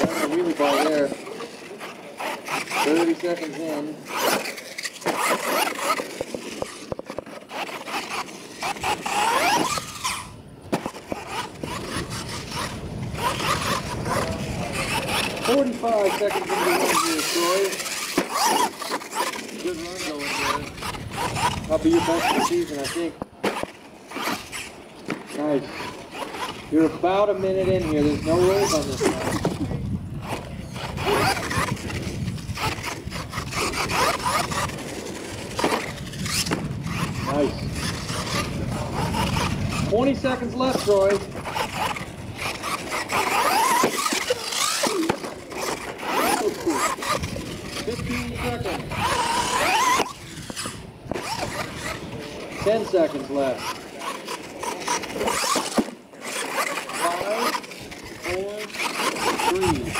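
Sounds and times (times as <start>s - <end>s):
electric motors whining: 0.0s - 59.9s
tyres scraping dirt: 0.0s - 59.9s.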